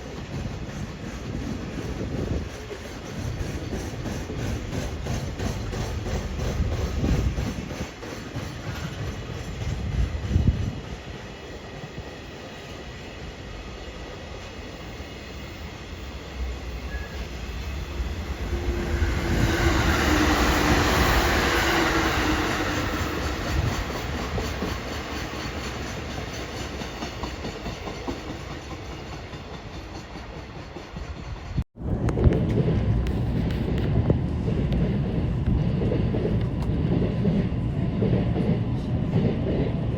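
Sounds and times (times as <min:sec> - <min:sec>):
train passing on rails: 0:00.0 - 0:39.9.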